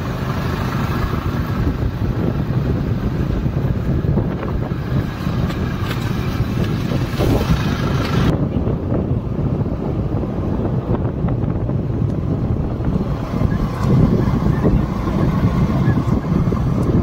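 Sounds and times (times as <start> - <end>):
vehicle rumble: 0.0 - 17.0
wind buffeting microphone: 0.0 - 17.0.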